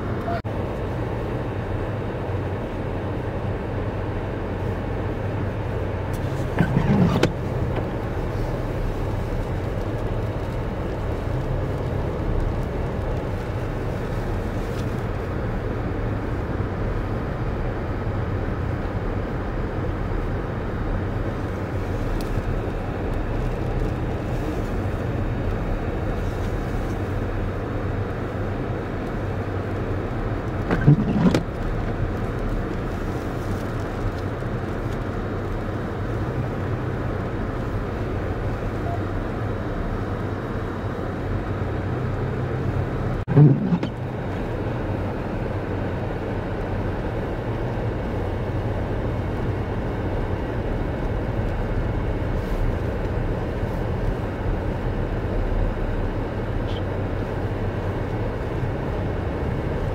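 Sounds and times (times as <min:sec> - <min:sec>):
car engine and road drone: 0:00.0 - 0:59.9.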